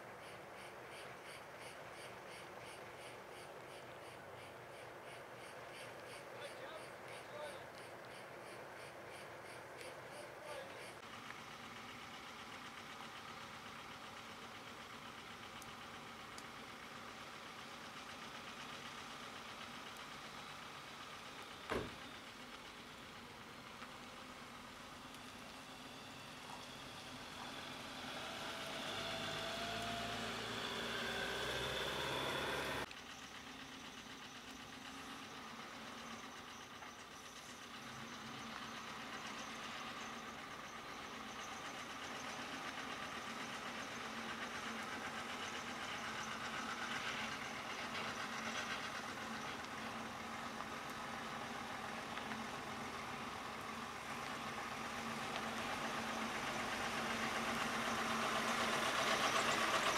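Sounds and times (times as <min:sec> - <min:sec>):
diesel truck engine: 0:00.0 - 0:59.9.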